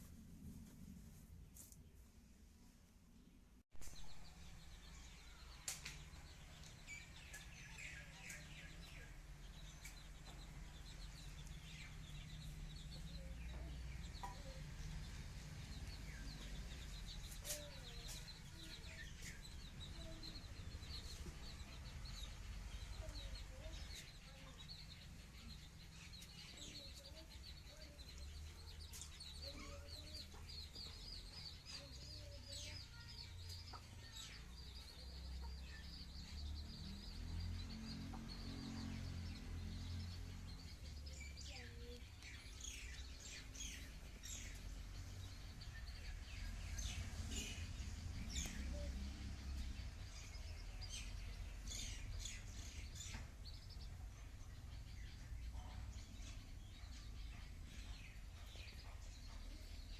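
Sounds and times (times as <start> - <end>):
birds chirping in trills: 3.8 - 59.9.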